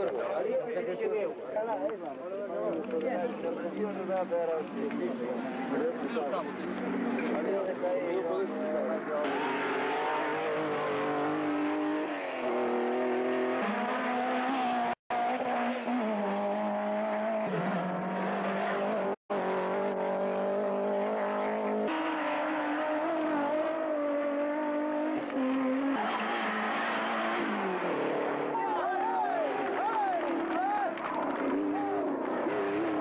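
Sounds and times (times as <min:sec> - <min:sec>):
rally car engines revving: 0:03.5 - 0:33.0.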